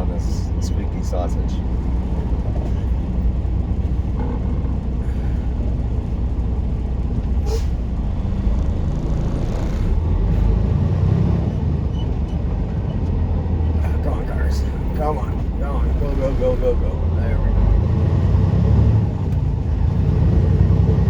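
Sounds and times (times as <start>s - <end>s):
diesel truck engine rumble: 0.0s - 21.0s.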